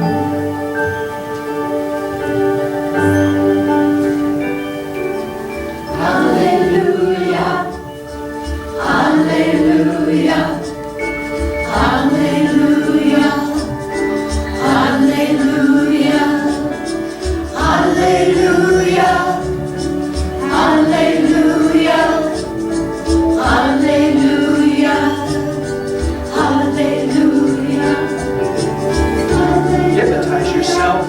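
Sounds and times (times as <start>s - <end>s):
instrumental accompaniment: 0.0s - 31.0s
choir singing: 3.8s - 31.0s.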